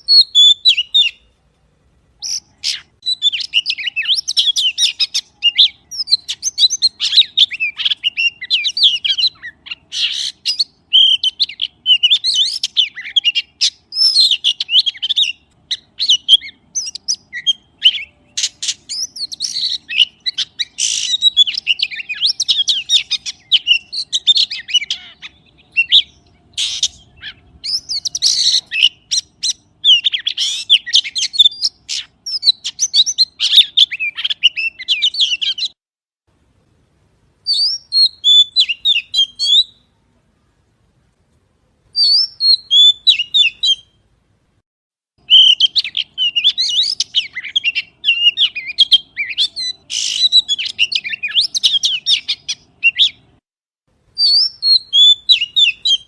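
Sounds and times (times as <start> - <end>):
magpie calling: 0.0 - 1.2, 2.2 - 35.8, 37.5 - 39.8, 42.0 - 43.9, 45.2 - 53.2, 54.2 - 56.0.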